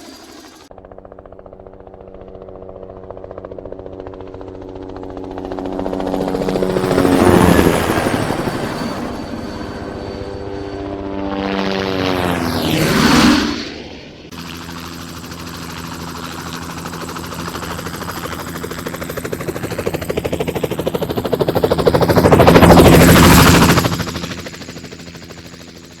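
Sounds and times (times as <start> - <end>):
helicopter engine hum: 0.0 - 26.0
helicopter rotor blades chopping: 0.0 - 26.0.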